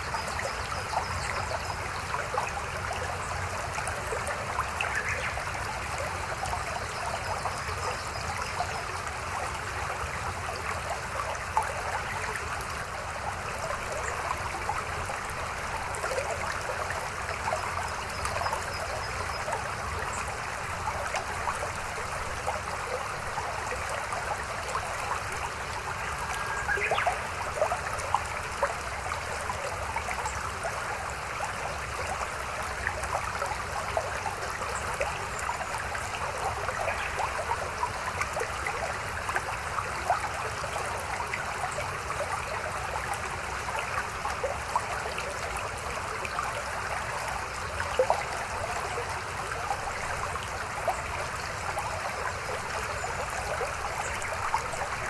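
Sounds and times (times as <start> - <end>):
stream babbling and splashing: 0.0 - 55.0.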